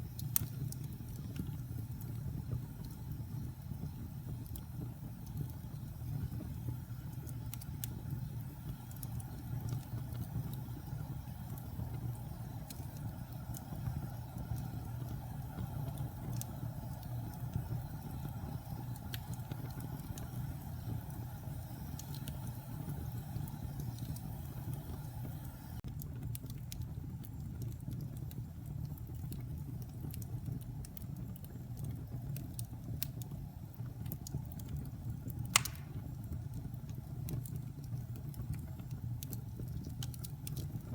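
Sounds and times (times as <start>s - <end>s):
fire crackles and pops: 0.0s - 40.9s
log fire burning: 0.0s - 40.9s.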